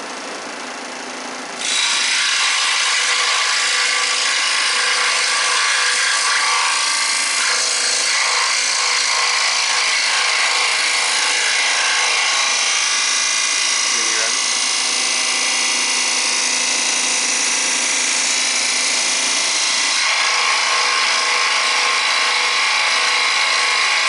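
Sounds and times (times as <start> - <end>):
scroll saw cutting wood: 1.6 - 24.0.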